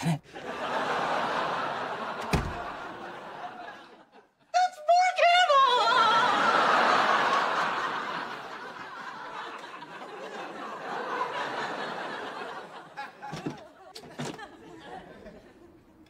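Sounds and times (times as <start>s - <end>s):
studio audience laughing: 0.0s - 4.4s, 6.0s - 16.0s.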